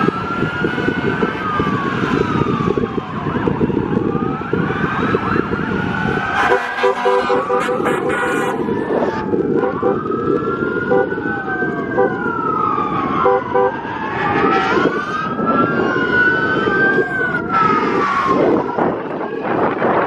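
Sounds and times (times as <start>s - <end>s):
emergency sirens wailing: 0.0s - 20.0s
rumble of road traffic: 0.0s - 20.0s.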